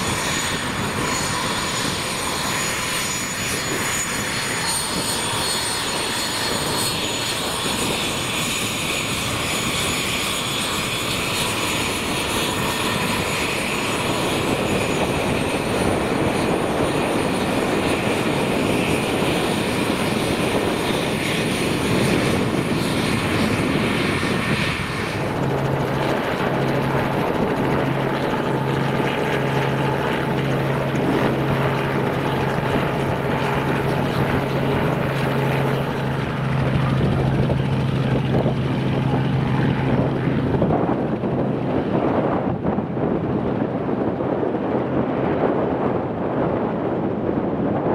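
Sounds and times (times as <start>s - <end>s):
helicopter hovering: 0.0s - 47.9s
jet engines whining: 0.0s - 47.9s.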